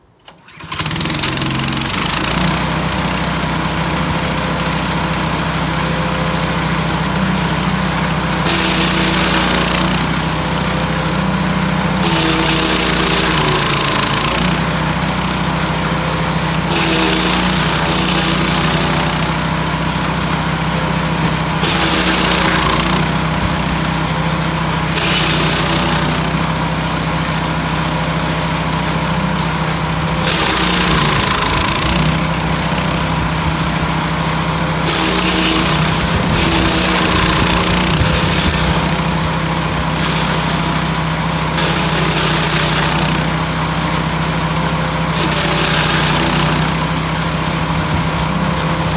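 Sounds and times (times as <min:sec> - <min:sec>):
wood chipper chipping branches: 0:00.0 - 0:48.9.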